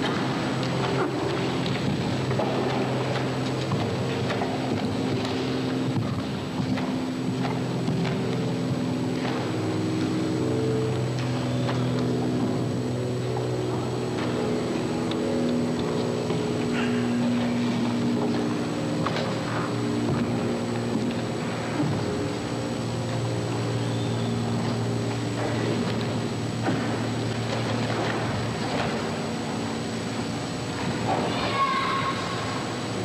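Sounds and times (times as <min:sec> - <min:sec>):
steady mechanical motor hum: 0:00.0 - 0:33.0.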